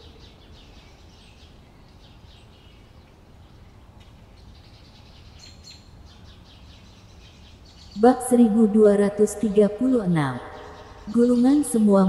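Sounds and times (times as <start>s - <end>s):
faint bird chirps: 0.0s - 12.0s
low steady hum: 0.0s - 12.0s.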